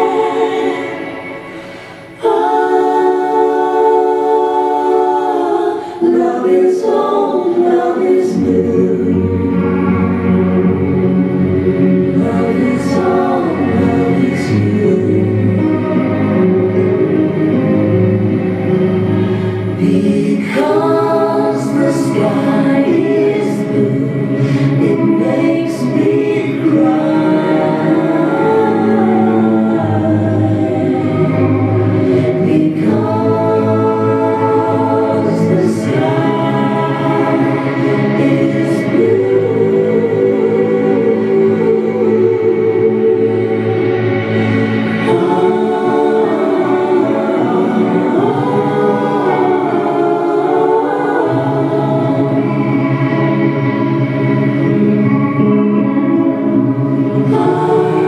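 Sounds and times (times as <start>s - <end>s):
choir singing a cappella: 0.0s - 58.0s.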